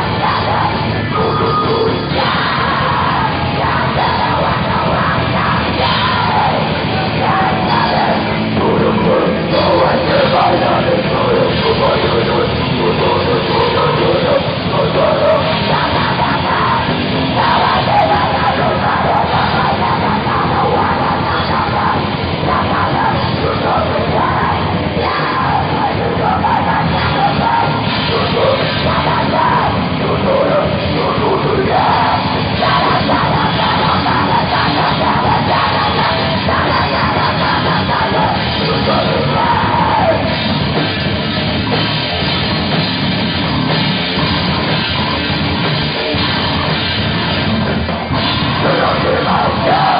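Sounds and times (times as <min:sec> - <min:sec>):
shouted vocals: 0:00.0 - 0:40.8, 0:48.1 - 0:49.9
heavy metal band playing: 0:00.0 - 0:49.9.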